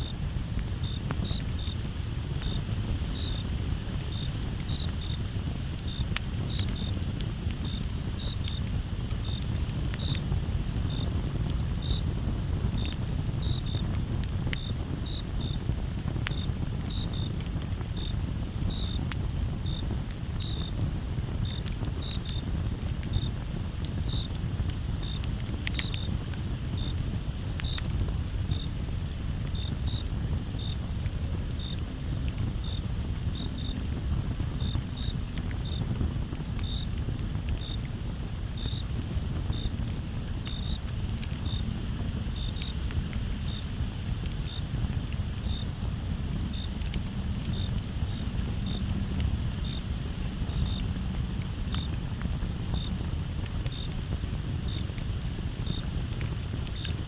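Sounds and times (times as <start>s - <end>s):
high insect trill: 0.0s - 53.9s
campfire crackling and popping: 0.0s - 57.0s
crickets chirping: 0.0s - 57.0s.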